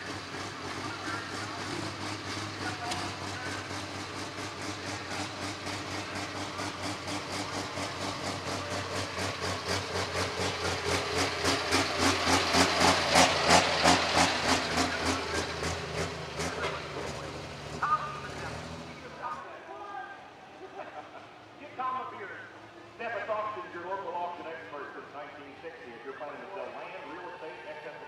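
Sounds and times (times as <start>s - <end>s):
diesel tractor engine idling: 0.0s - 28.0s.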